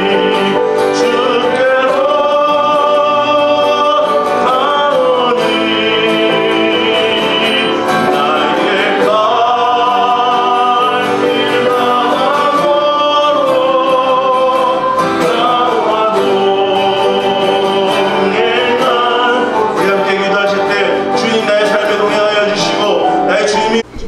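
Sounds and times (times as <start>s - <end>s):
man singing a hymn: 0.0s - 23.9s
acoustic guitar: 0.0s - 24.0s.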